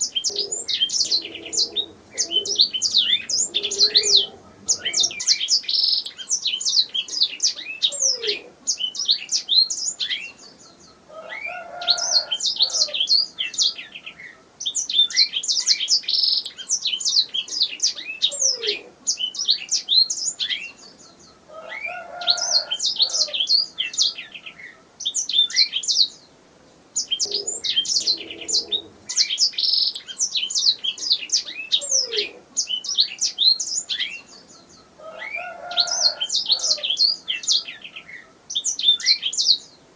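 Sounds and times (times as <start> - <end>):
canary singing trills: 0.0 - 26.3, 26.9 - 39.8.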